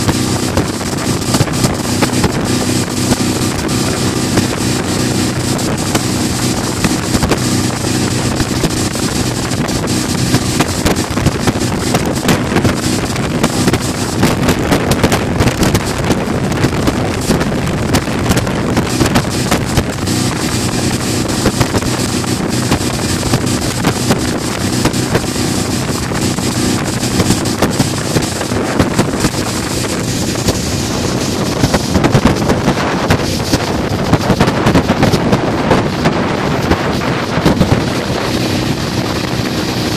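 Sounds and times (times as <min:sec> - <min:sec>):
boat wake rushing: 0:00.0 - 0:39.9
outboard motor running: 0:00.0 - 0:39.9
wind buffeting microphone: 0:00.0 - 0:39.9.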